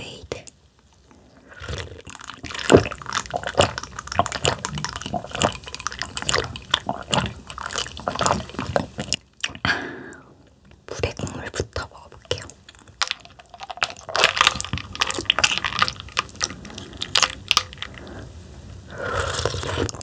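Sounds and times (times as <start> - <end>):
person gulping and swallowing: 1.0 - 10.2, 12.1 - 20.0.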